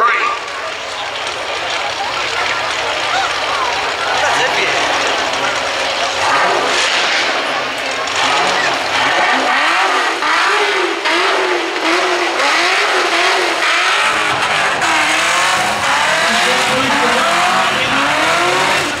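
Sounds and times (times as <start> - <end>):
car engine revving: 0.0 - 19.0
spinning tyres squealing: 0.1 - 19.0.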